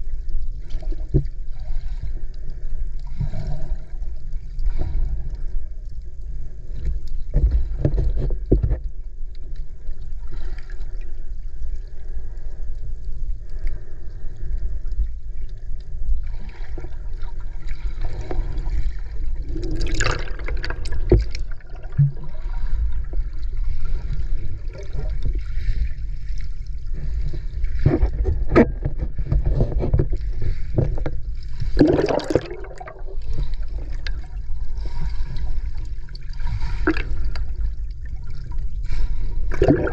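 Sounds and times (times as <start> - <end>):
rushing water and bubbles: 0.0 - 39.9
underwater low rumble: 0.0 - 39.9.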